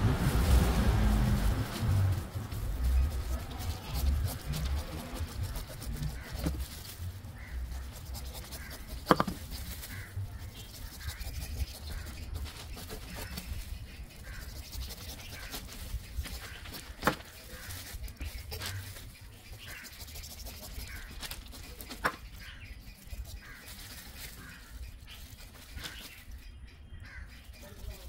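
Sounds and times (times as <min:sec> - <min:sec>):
knife cutting and scraping rind: 0:01.5 - 0:26.5.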